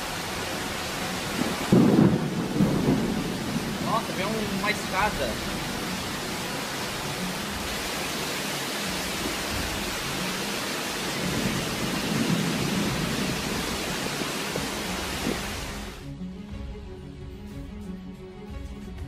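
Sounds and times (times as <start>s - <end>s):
rushing floodwater: 0.0s - 16.0s
heavy rain: 0.0s - 16.2s.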